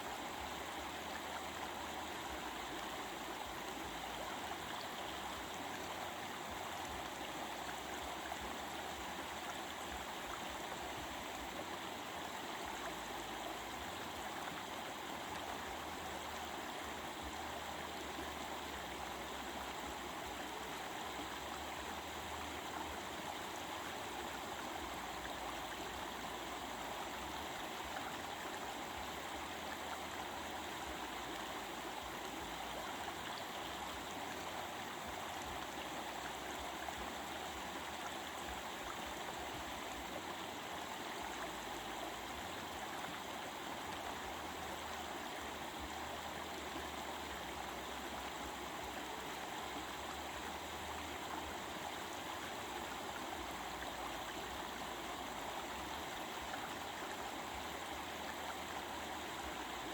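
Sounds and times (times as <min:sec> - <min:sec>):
water babbling over rocks: 0:00.0 - 0:59.9.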